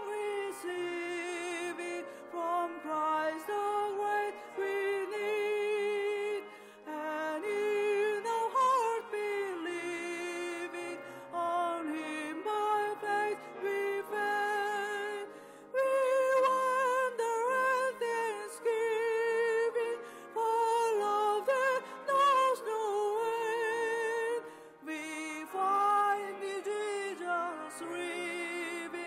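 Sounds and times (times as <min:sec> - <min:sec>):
keyboard accompaniment: 0:00.0 - 0:29.0.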